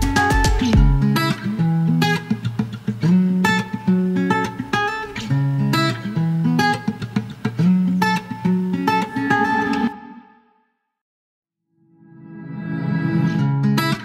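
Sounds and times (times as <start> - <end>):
acoustic guitar strumming: 0.0 - 10.4, 12.8 - 14.0.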